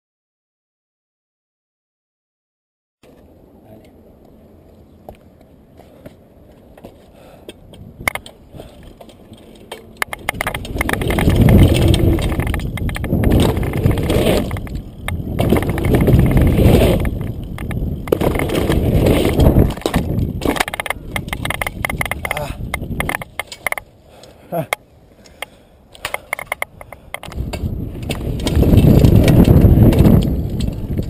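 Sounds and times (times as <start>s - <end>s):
wind and tyre noise: 3.0s - 31.0s.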